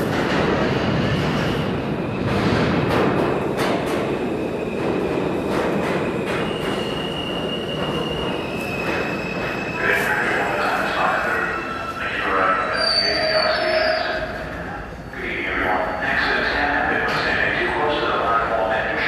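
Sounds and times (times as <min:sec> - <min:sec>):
subway train rumbling: 0:00.0 - 0:19.0.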